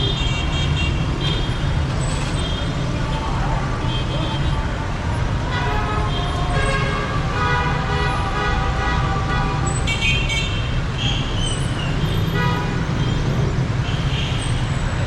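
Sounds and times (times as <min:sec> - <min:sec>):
rumble of traffic engines: 0:00.0 - 0:15.0.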